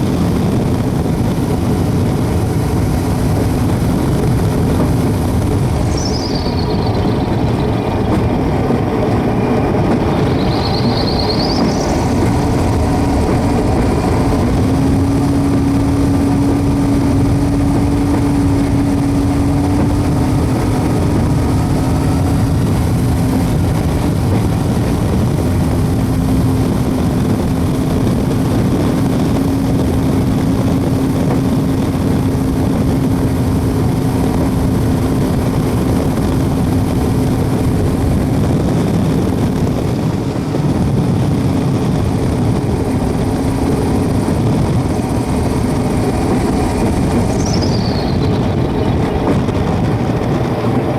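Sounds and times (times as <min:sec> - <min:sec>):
propeller plane engine running: 0:00.0 - 0:50.9.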